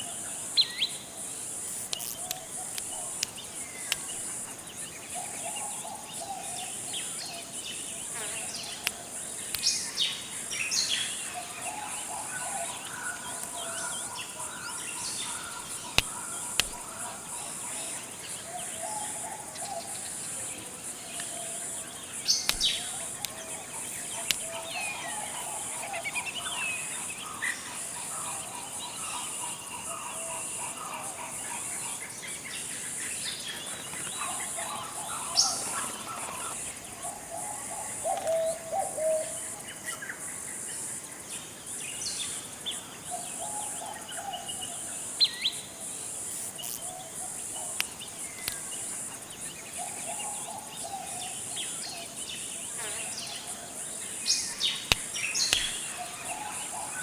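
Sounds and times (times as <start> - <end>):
insect drone: 0.0 - 57.0
birds calling and chirping: 1.6 - 20.4, 21.0 - 40.0, 46.6 - 57.0.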